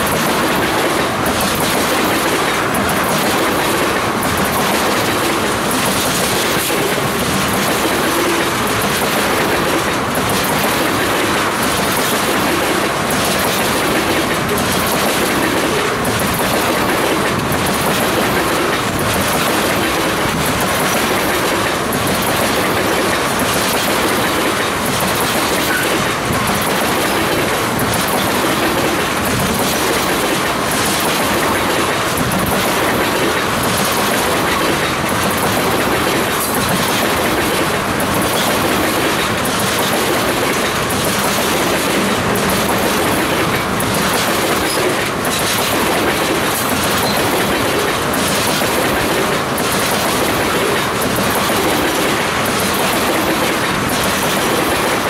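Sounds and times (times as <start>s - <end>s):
steel train wheels rushing on rail: 0.0s - 55.0s
wheels clicking over rail joints: 0.0s - 55.0s.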